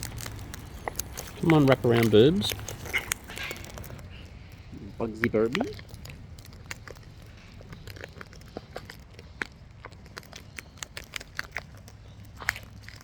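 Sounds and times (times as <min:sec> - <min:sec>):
parrots cracking seed: 0:00.0 - 0:13.0.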